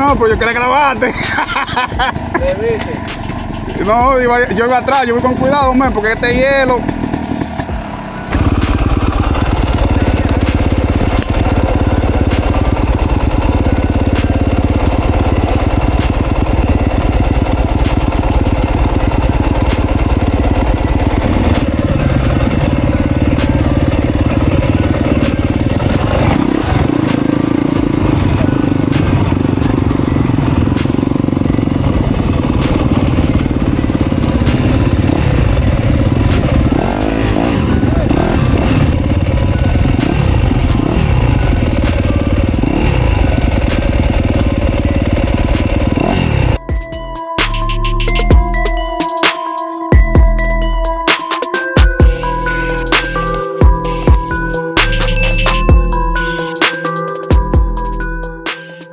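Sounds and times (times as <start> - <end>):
dirt bike engine running: 0.0 - 49.2, 49.9 - 58.5.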